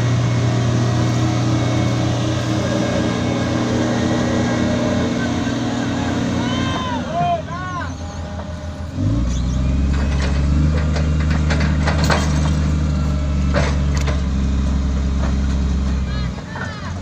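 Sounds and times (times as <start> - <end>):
heavy diesel engine drone: 0.0 - 17.0.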